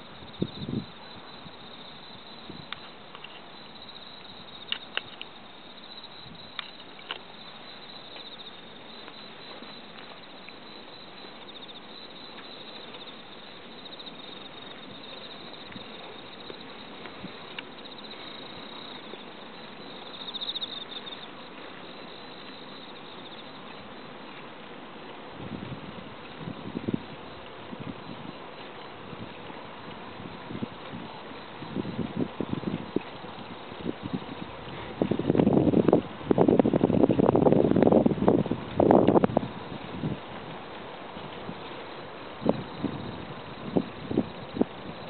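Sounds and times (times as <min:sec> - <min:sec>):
insects trilling: 0:00.0 - 0:24.4, 0:25.3 - 0:35.9, 0:41.4 - 0:45.0.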